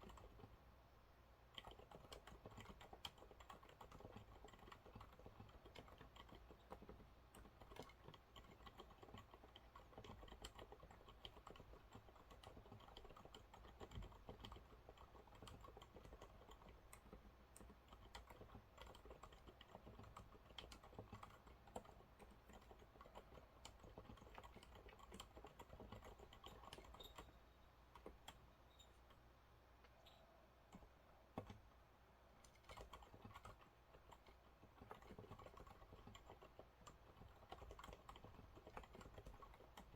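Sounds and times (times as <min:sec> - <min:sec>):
soft keyboard typing: 0:00.0 - 0:00.7, 0:01.4 - 0:39.9.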